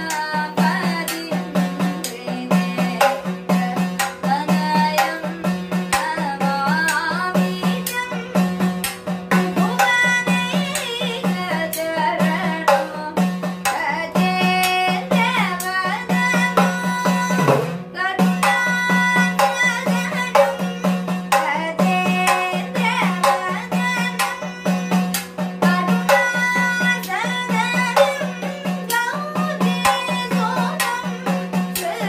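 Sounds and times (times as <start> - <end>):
boy singing: 0.0 - 32.0.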